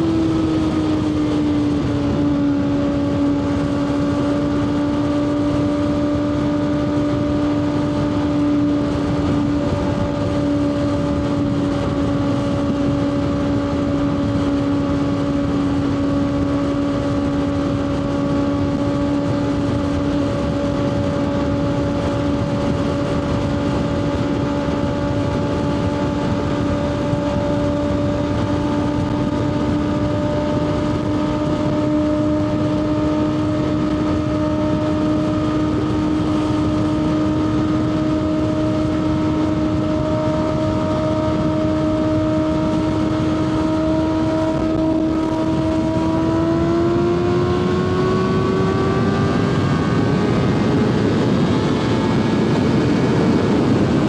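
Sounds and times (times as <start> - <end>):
motorcycle engine running hard: 0.0 - 54.0
wind rush: 0.0 - 54.0.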